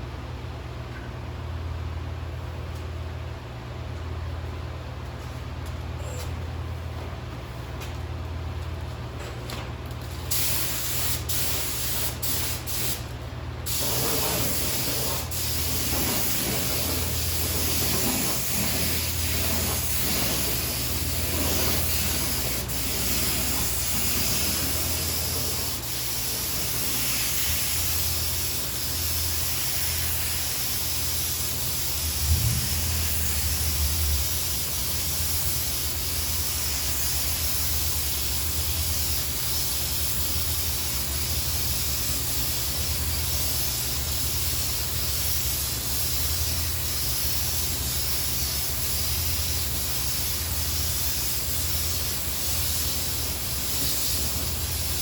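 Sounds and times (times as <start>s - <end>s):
steady low hum: 0.0s - 55.0s
paint spray gun hissing: 10.3s - 13.0s, 13.7s - 55.0s.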